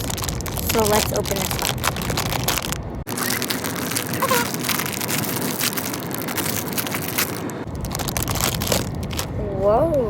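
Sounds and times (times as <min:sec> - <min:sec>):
packaging crinkling and tearing: 0:00.0 - 0:09.4.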